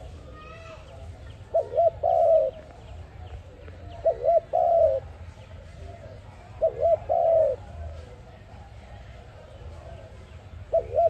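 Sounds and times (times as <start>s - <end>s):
dove cooing: 1.4s - 11.0s.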